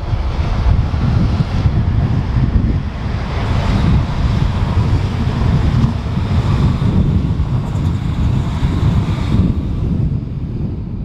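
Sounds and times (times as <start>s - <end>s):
electric train rolling by: 0.0s - 10.6s
wind buffeting microphone: 0.0s - 11.0s.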